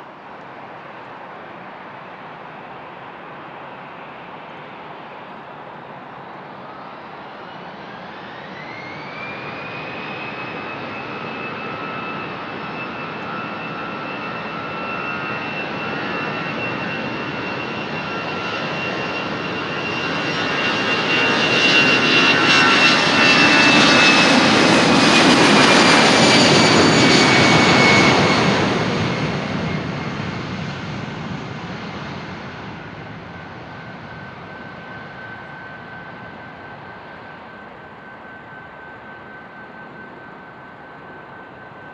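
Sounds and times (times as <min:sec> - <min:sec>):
high jet engine whine: 0:00.0 - 0:41.9
jet engines roaring: 0:00.0 - 0:41.9.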